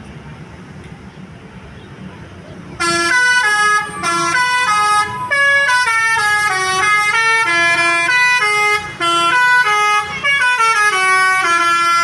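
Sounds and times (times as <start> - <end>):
road traffic: 0.0 - 12.0
vehicle engine rumble: 0.0 - 12.0.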